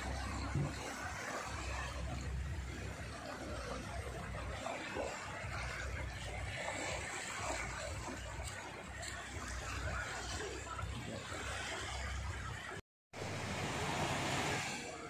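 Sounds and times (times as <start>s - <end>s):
faint voices: 0.0s - 15.0s
small waves washing: 0.0s - 15.0s
wind rumbling on microphone: 0.0s - 15.0s.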